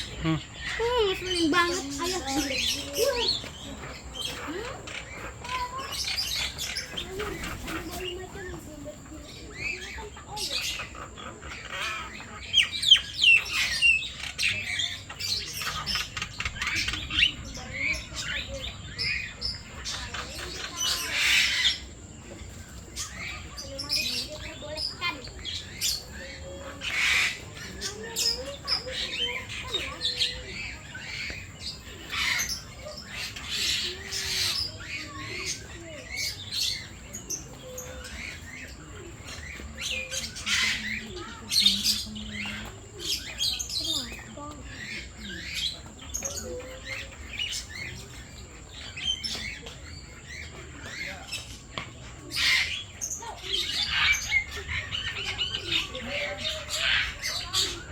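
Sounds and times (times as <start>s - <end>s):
birds squawking and chirping: 0.0s - 57.9s.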